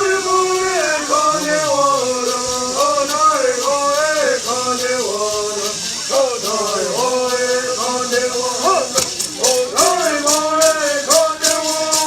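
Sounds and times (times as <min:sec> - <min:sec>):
gourd rattles shaking: 0:00.0 - 0:12.0
men singing together: 0:00.0 - 0:12.0.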